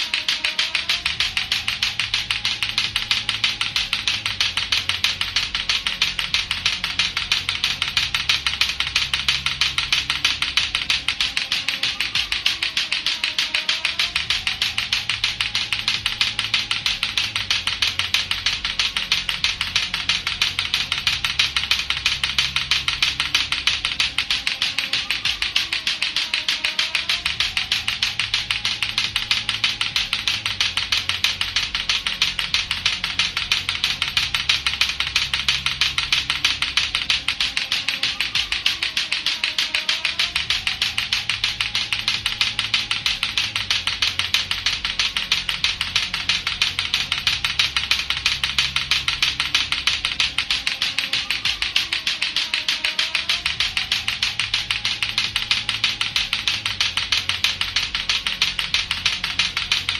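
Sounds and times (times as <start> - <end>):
clacker toy balls clacking: 0.0 - 59.9
faint music: 0.0 - 59.9.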